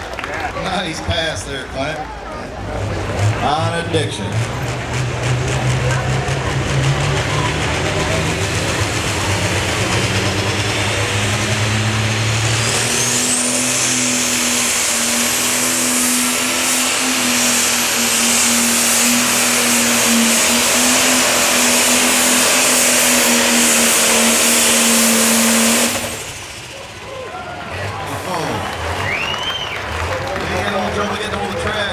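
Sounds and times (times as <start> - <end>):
tractor engine under load: 0.0 - 31.9
turbocharger whine: 2.5 - 29.9.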